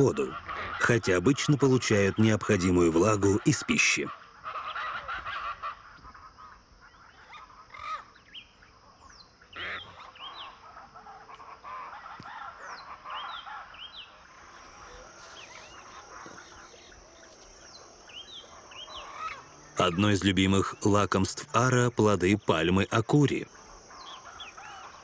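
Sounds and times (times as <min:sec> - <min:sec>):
harsh bird squawks: 0:00.0 - 0:08.2, 0:09.4 - 0:25.0
birds chirping: 0:00.0 - 0:25.0.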